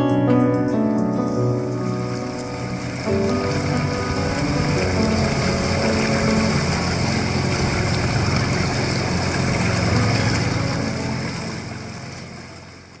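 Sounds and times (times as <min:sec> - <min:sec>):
boat motor running: 0:00.7 - 0:13.0
water rushing past hull: 0:01.2 - 0:13.0.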